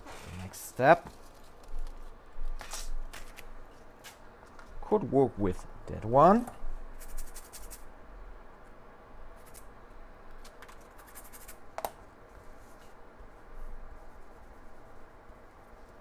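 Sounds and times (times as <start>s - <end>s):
faint background hum: 0.0s - 16.0s.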